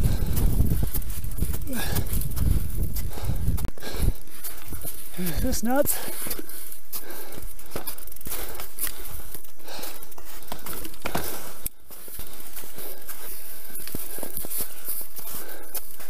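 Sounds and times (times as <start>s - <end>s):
branches rustling and crackling: 0.0s - 16.0s
footsteps crunching in snow: 0.0s - 16.0s.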